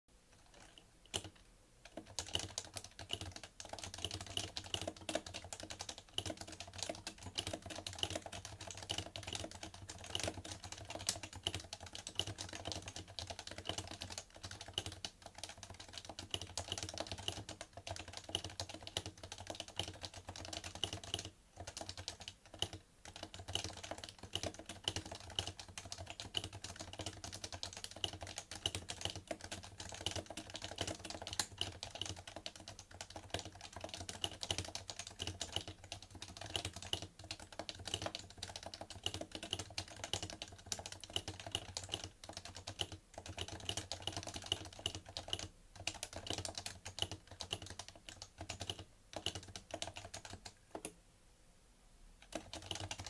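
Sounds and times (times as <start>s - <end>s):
soft keyboard typing: 0.3s - 51.0s, 52.2s - 53.0s.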